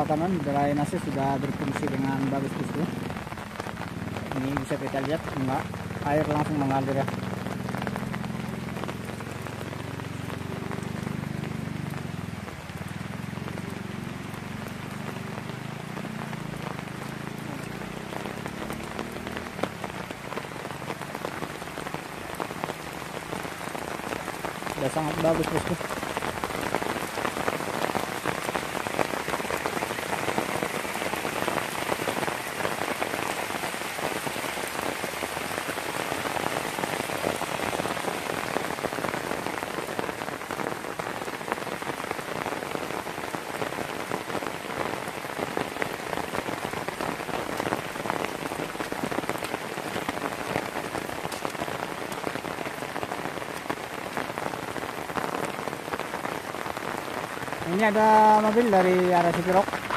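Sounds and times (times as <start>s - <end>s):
rain falling on gravel road: 0.0s - 59.9s.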